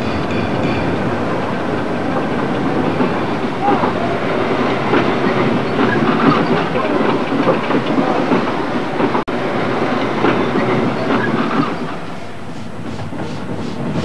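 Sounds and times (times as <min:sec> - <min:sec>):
steam locomotive exhaust beats: 0:00.0 - 0:14.0
train wheels clattering over track: 0:00.0 - 0:14.0.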